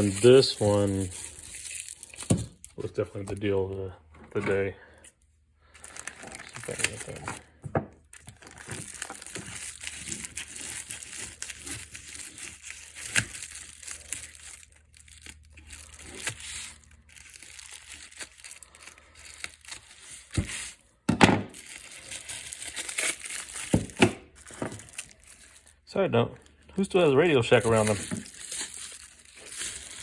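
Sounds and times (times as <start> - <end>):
packaging crinkling and rustling: 0.0 - 4.7, 5.6 - 20.8, 21.5 - 25.8, 26.4 - 30.0.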